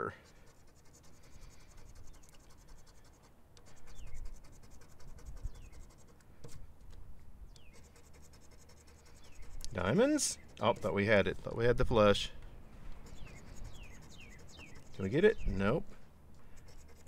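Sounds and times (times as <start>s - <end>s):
scratching lottery ticket: 0.0s - 6.6s, 7.6s - 12.2s, 13.0s - 15.5s, 16.5s - 17.0s.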